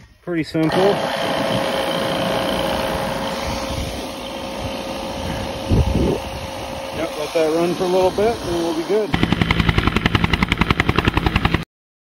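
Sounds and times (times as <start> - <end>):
recovery machine humming: 0.6 - 11.5.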